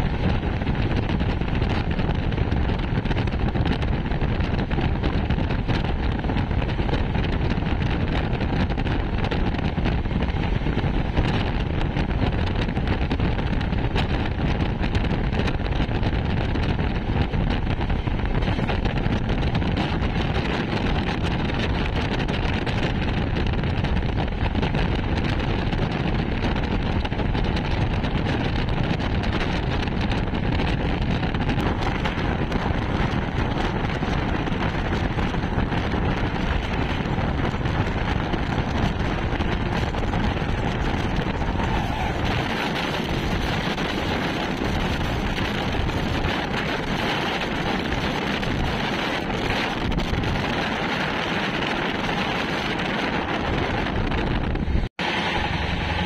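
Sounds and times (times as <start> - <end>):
train wheel and coach noise: 0.0 - 56.0
wind buffeting microphone: 0.0 - 56.0.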